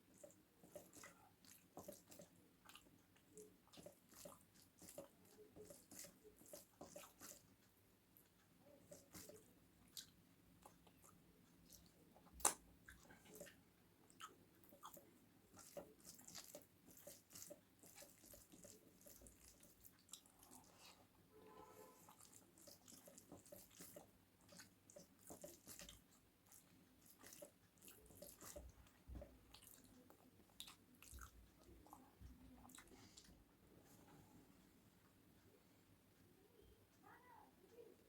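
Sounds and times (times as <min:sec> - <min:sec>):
person chewing: 0:00.1 - 0:21.0, 0:22.0 - 0:33.4.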